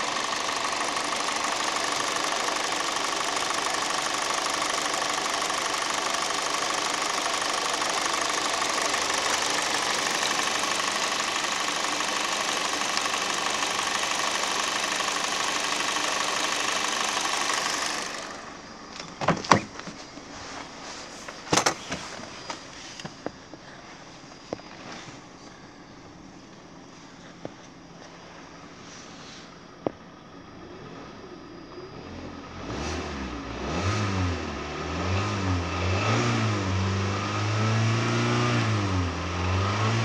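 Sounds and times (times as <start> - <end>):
car engine idling: 0.0 - 32.6.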